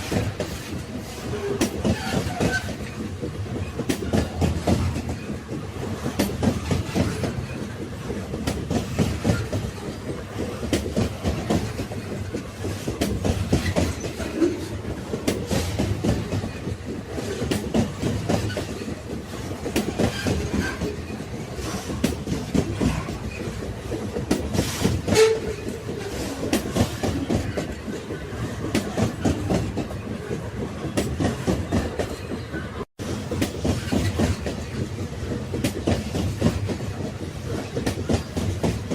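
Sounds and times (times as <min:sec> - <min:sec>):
railway carriages rumbling: 0:00.0 - 0:38.9.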